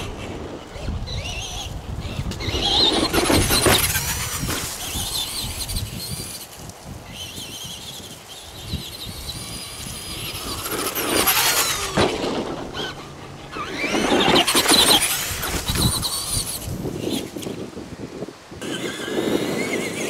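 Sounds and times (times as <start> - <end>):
electric toy motor whining: 0.0 - 17.5, 18.6 - 20.0
tyres on grass and dirt: 0.0 - 20.0.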